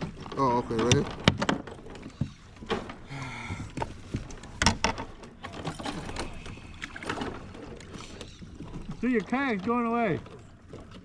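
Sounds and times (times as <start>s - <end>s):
gear knocking and rattling on kayak: 0.0s - 11.0s.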